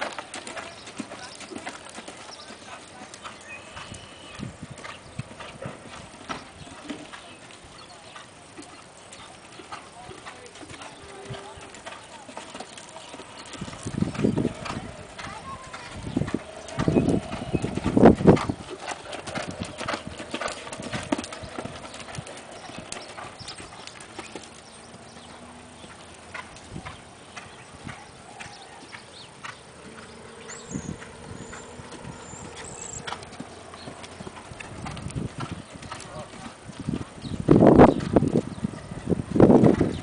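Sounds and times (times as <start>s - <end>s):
horse hoofbeats on sand: 0.0s - 40.0s.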